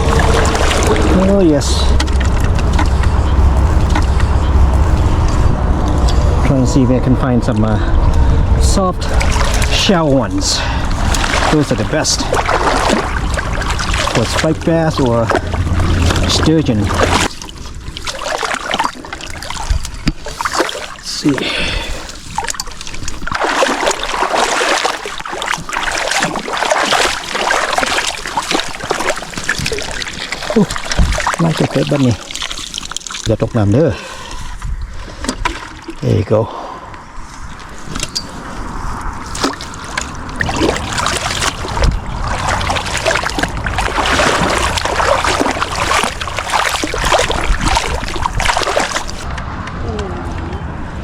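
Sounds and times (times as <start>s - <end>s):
shallow water splashing: 0.0s - 36.6s, 37.3s - 49.3s.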